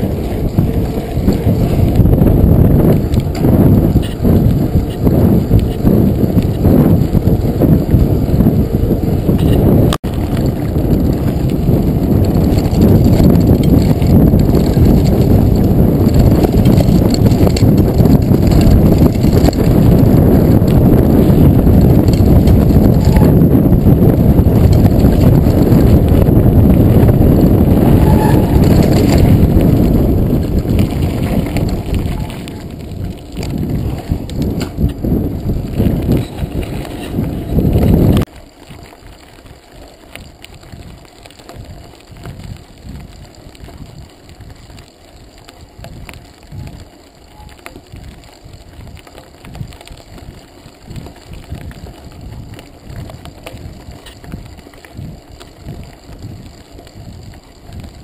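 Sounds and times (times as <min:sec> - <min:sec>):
bike rattling: 0:00.0 - 0:58.0
tyres crunching on gravel: 0:00.0 - 0:58.0
wind and tyres rumbling: 0:00.0 - 0:58.0.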